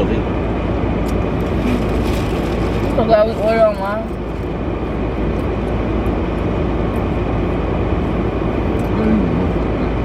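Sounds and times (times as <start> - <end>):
car interior rumble and hiss: 0.0 - 10.0.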